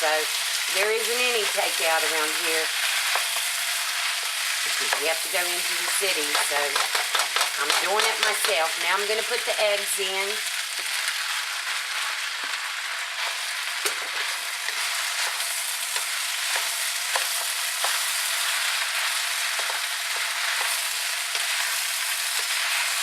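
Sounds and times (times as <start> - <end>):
rice sizzling in a wok: 0.0 - 23.0
utensil scraping a wok: 0.3 - 8.7, 10.5 - 23.0.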